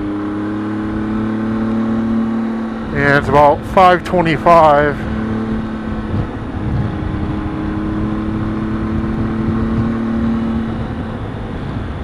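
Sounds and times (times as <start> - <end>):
motorcycle engine cruising: 0.0 - 12.0
road rumble: 0.0 - 12.0
wind rush: 0.9 - 12.0.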